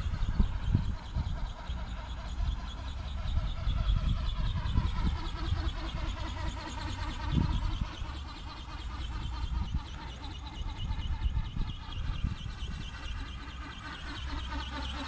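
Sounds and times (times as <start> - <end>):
toy aircraft motor whining: 0.0 - 15.0
wind rumble on microphone: 0.0 - 15.0.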